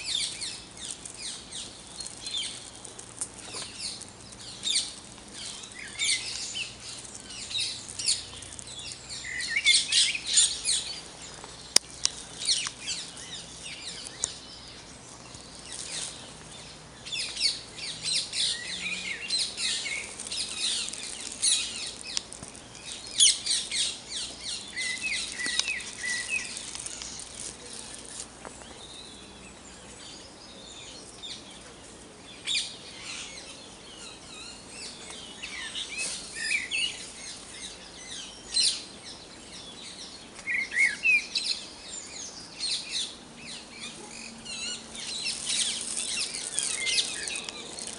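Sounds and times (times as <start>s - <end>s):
songbirds singing and chirping: 0.0s - 47.9s.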